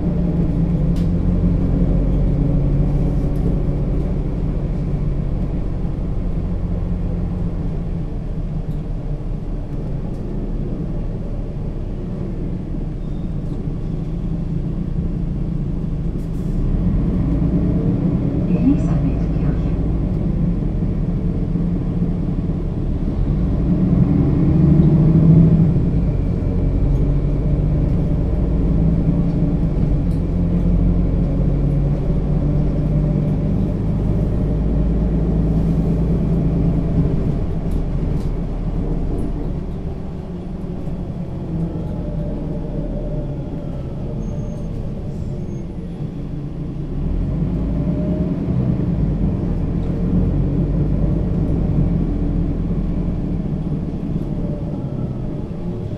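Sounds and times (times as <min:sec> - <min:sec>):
bus diesel engine driving: 0:00.0 - 0:55.9.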